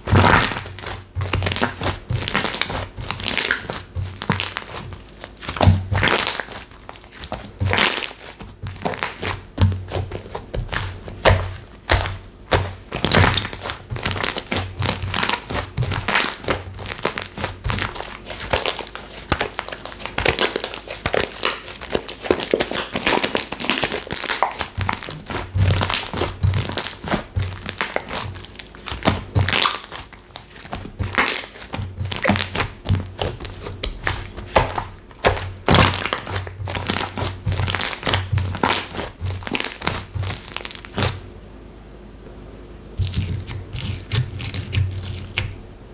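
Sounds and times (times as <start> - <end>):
slime squeezed crackling pops: 0.1 - 41.2.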